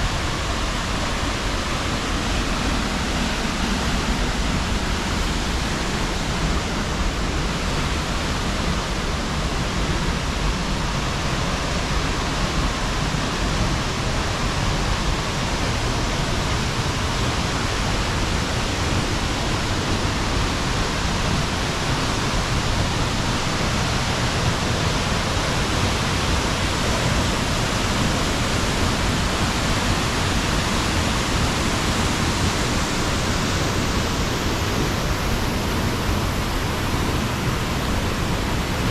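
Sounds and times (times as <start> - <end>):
waterfall rushing into pool: 0.0 - 38.9.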